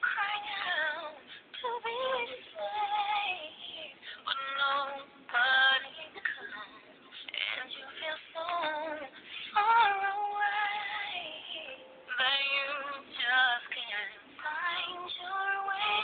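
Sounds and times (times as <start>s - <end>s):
woman singing slow melody: 0.0s - 16.0s.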